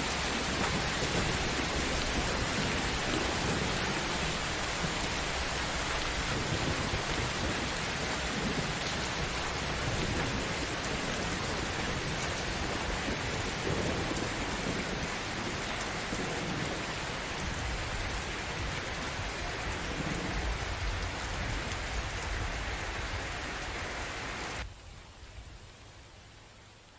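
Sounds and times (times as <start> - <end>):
rolling thunder: 0.0 - 23.2
heavy rain: 0.0 - 26.9.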